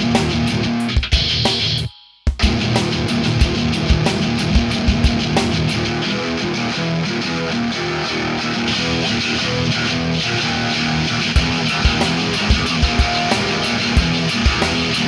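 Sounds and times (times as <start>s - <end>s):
drums: 0.0s - 15.0s
electric guitar: 0.0s - 15.0s.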